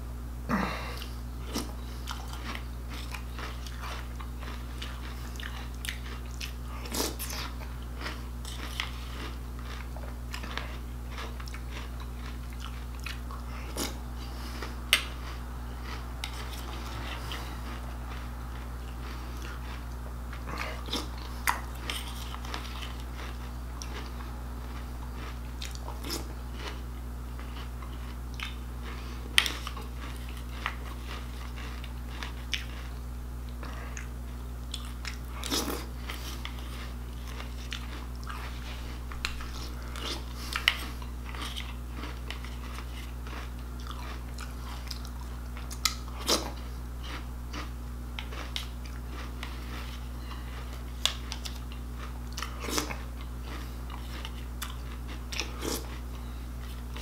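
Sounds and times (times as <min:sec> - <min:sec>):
steady low hum: 0:00.0 - 0:57.0
man crunching cereal: 0:00.6 - 0:57.0.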